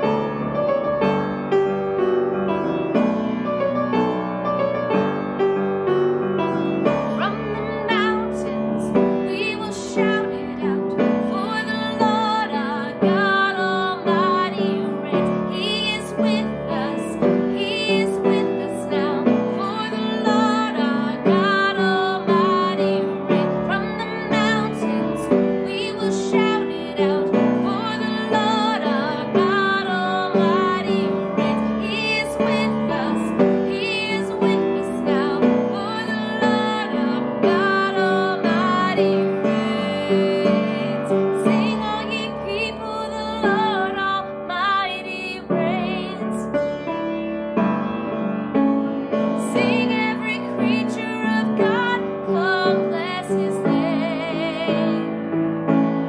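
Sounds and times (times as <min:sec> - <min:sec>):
piano accompaniment: 0:00.0 - 0:56.0
woman singing: 0:06.6 - 0:46.6, 0:49.1 - 0:55.3.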